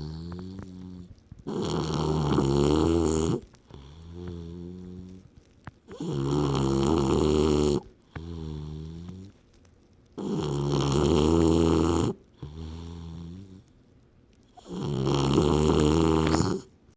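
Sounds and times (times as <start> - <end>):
loud snoring: 0.0 - 5.2, 5.9 - 9.3, 10.2 - 13.6, 14.6 - 16.7.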